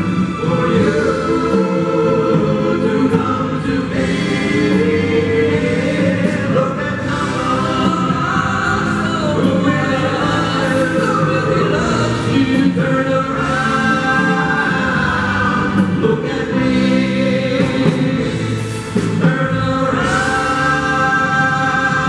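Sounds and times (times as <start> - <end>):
drums: 0.0 - 22.0
electric bass guitar: 0.0 - 22.0
men singing: 0.0 - 22.0.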